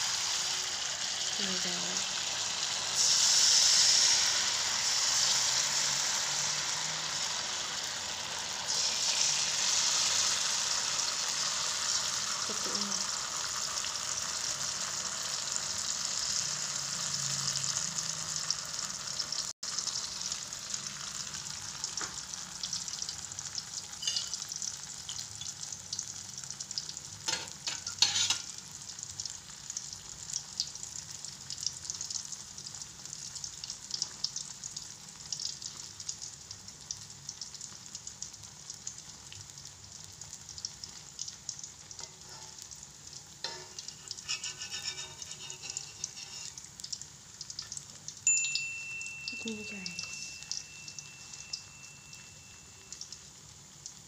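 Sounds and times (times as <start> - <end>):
batter sizzling in hot oil: 0.0 - 54.0.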